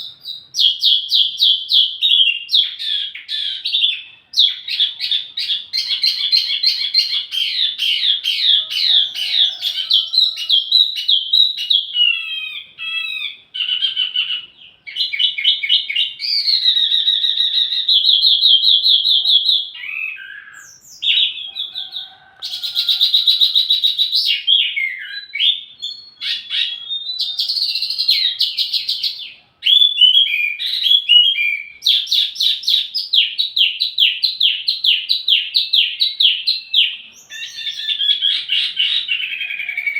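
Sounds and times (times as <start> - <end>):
songbird singing trills and whistles: 0.0 - 39.9.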